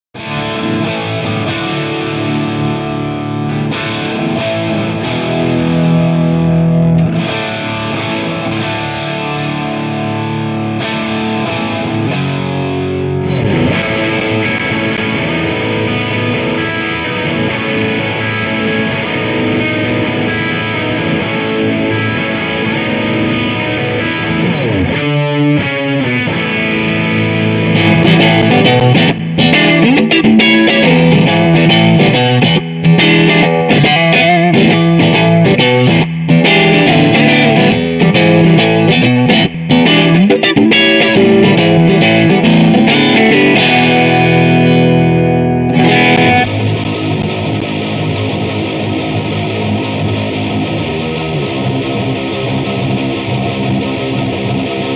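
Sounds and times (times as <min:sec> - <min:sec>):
electric guitar with reverb: 0:00.2 - 0:54.9.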